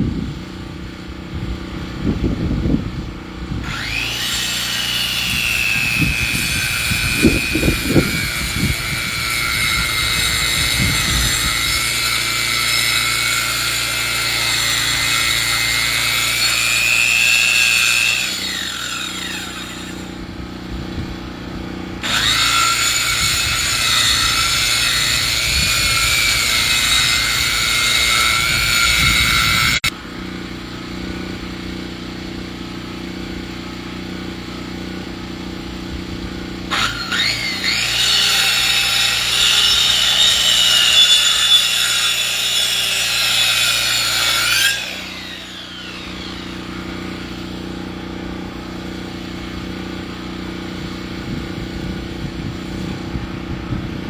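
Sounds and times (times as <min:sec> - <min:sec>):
sawmill motor running: 0:01.0 - 0:54.0.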